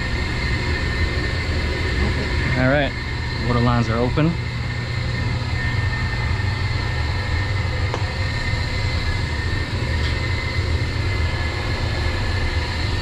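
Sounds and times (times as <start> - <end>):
boiler room machinery drone: 0.0 - 13.0
faint high whines: 0.0 - 13.0.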